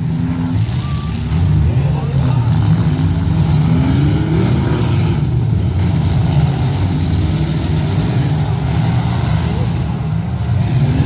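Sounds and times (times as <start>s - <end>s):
car engines rumbling: 0.0s - 11.0s
engines revving: 0.0s - 11.0s.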